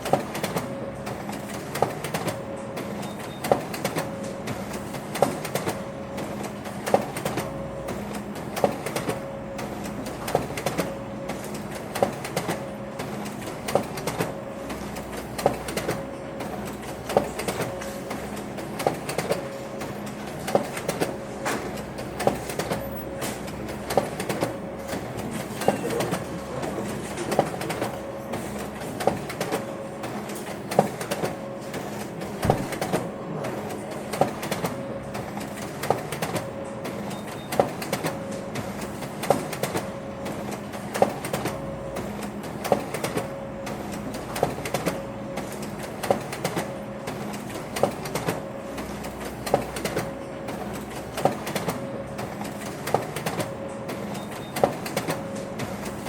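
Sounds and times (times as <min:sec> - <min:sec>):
printer humming: 0:00.0 - 0:56.0
printer mechanical clack: 0:00.0 - 0:56.0.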